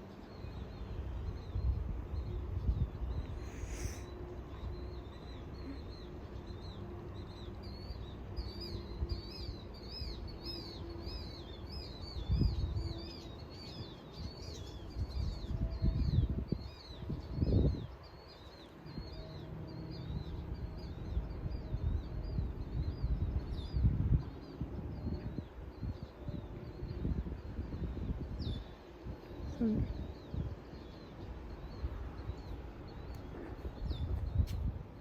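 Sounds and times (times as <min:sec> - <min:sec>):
bird chirping: 0:00.0 - 0:34.5.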